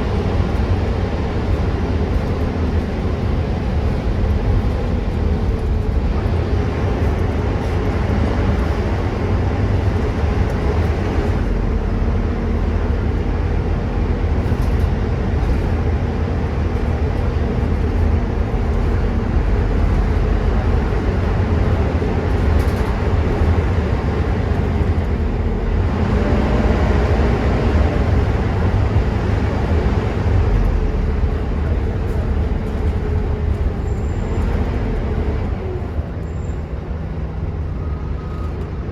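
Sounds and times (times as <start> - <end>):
bus engine rumble: 0.0 - 38.9
road noise: 0.0 - 38.9.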